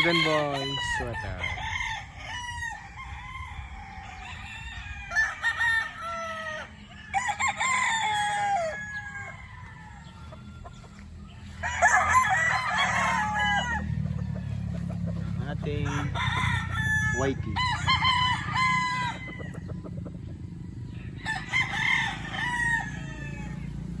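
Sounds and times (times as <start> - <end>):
roosters crowing: 0.0 - 24.0.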